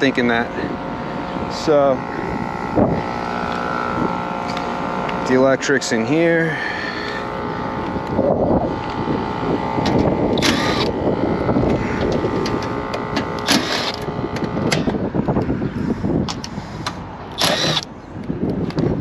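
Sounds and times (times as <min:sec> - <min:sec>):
air conditioner humming and rattling: 0:00.0 - 0:19.0.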